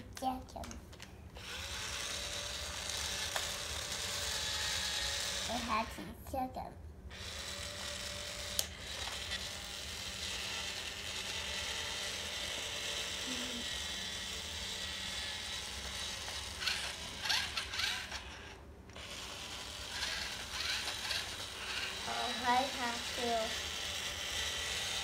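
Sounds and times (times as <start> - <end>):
toy drill ratcheting whir: 1.4 - 6.0, 7.1 - 25.0.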